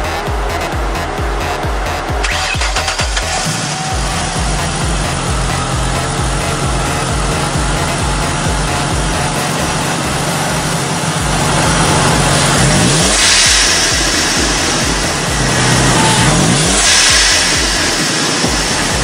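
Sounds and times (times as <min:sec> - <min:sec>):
car engine idling and revving: 0:00.0 - 0:19.0
blow-off valve hiss: 0:02.2 - 0:19.0.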